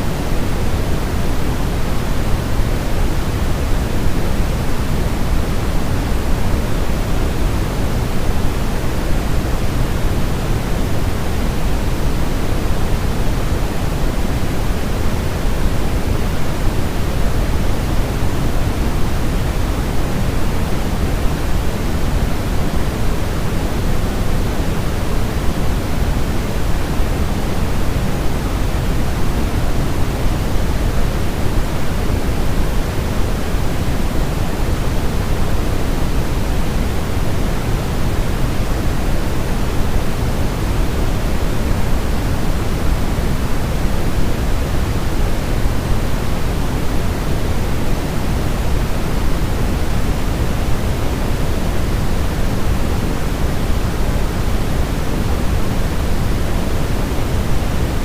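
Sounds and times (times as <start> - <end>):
low synthetic hiss noise: 0.0 - 58.0.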